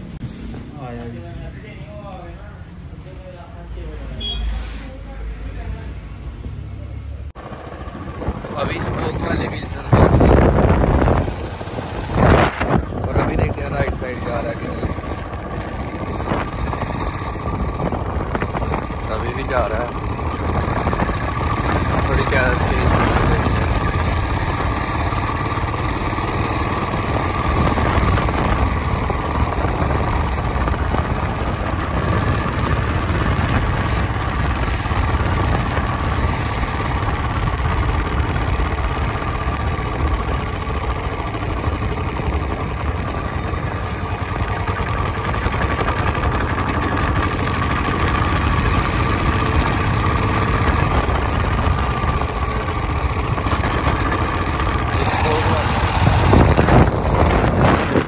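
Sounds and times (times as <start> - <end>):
motorcycle engine running: 0.0 - 58.0
wind rush on microphone: 7.4 - 58.0.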